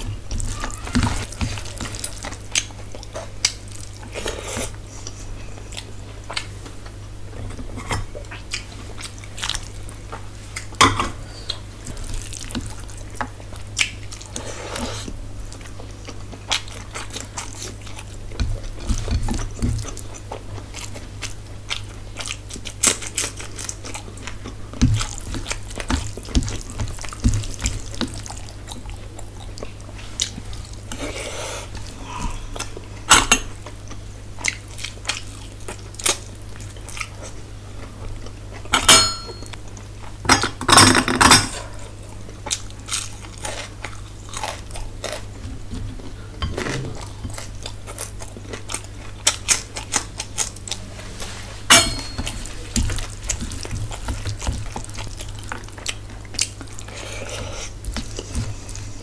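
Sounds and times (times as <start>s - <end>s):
chewing and wet mouth sounds: 0.0s - 40.2s, 41.6s - 59.0s
steady low hum: 0.0s - 59.0s.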